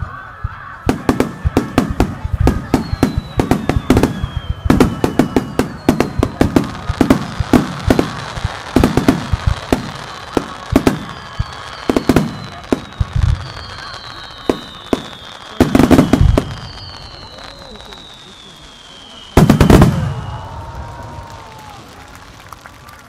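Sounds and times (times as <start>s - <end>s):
fireworks bangs and booms: 0.0s - 23.0s
firework whistles sliding down: 2.3s - 22.2s.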